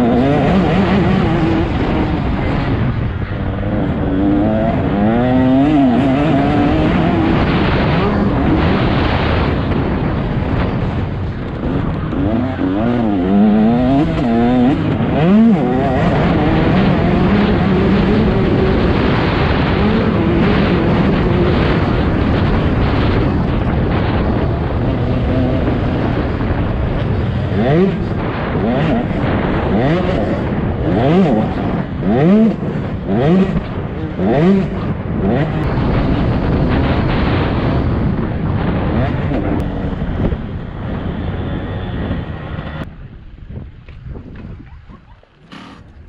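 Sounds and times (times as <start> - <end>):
dirt bike engine revving: 0.0 - 42.9
wind and track noise: 0.0 - 46.0.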